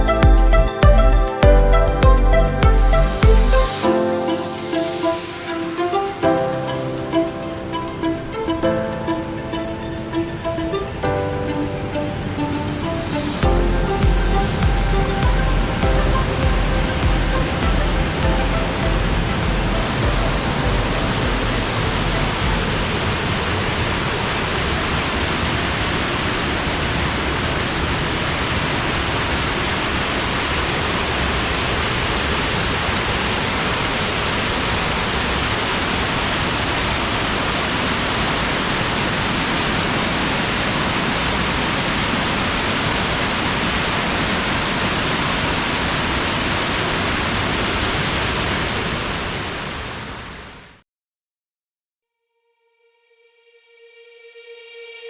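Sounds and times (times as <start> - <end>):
fast-flowing water rushing: 0.0 - 50.4.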